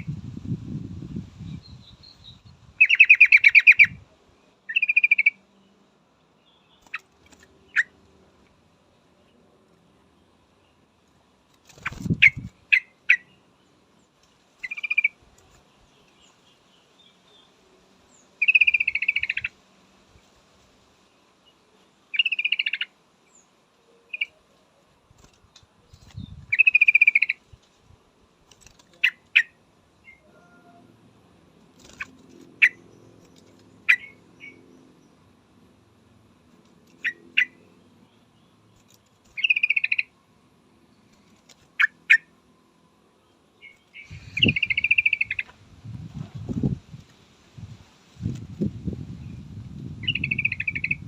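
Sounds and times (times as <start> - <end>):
bird calling ticks and chatter: 1.6 - 30.8, 31.4 - 35.7, 36.4 - 42.4, 43.1 - 45.6, 49.5 - 51.0.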